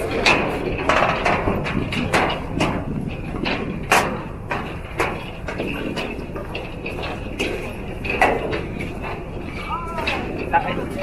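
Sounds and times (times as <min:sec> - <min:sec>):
footsteps clanking on metal deck: 0:00.0 - 0:11.0.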